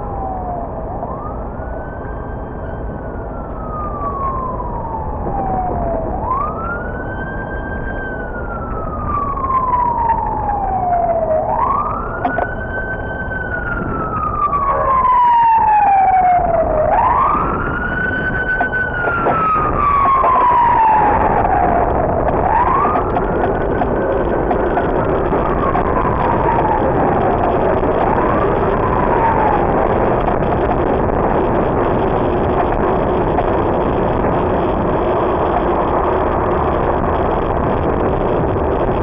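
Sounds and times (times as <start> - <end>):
city traffic rumble: 0.0 - 39.0
emergency vehicle siren wailing: 0.0 - 39.0.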